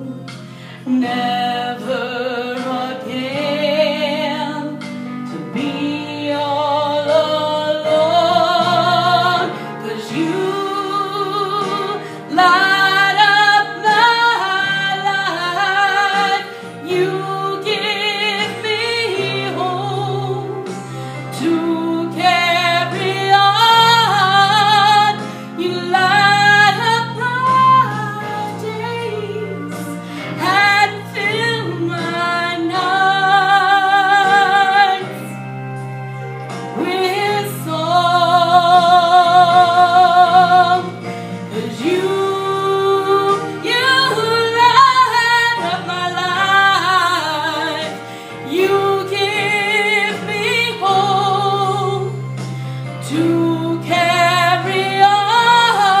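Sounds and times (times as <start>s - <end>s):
woman singing with vibrato: 0.0s - 35.5s, 36.7s - 56.0s
instrumental accompaniment: 0.0s - 56.0s.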